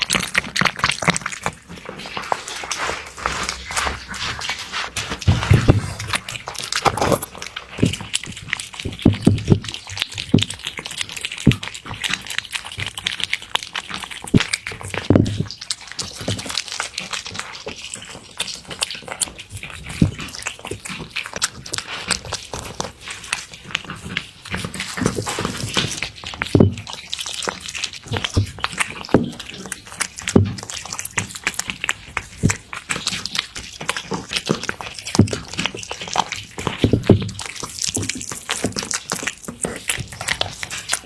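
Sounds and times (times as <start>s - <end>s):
cat chewing and licking: 0.0s - 41.0s.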